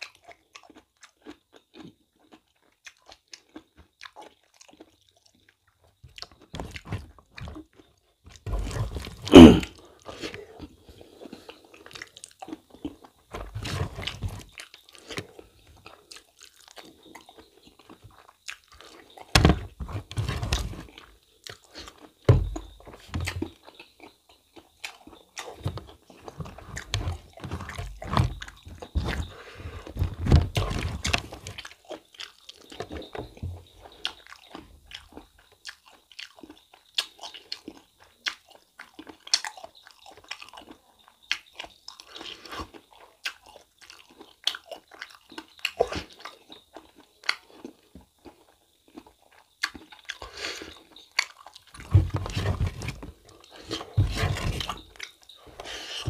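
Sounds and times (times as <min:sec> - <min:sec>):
close chewing with wet clicks: 0:00.0 - 0:54.0, 0:54.6 - 0:56.0.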